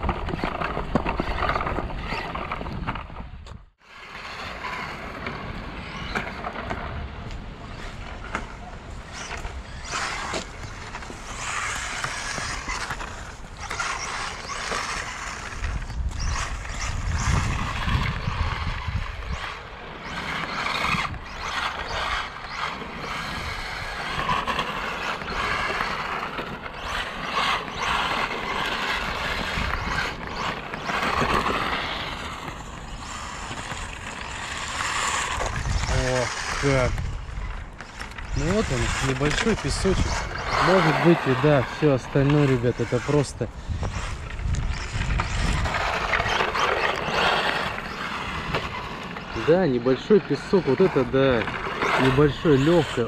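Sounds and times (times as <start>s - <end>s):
rc car motor whir: 0.0s - 53.0s.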